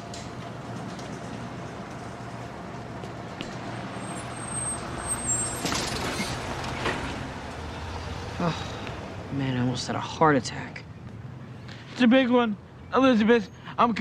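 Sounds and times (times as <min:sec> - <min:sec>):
motor vehicle humming: 0:00.0 - 0:12.0.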